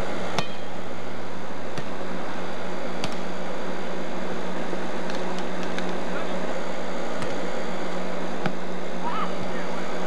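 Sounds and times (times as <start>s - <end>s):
tape hiss with low hum: 0.0s - 10.0s.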